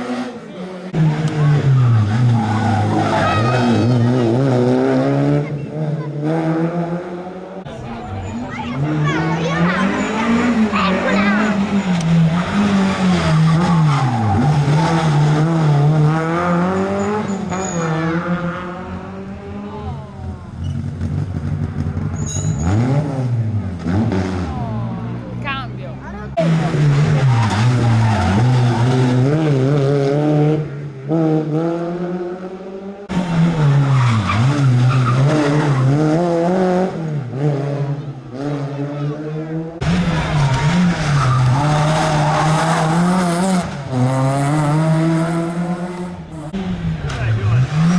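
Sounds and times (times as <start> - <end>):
rally car engine revving: 0.0 - 47.9.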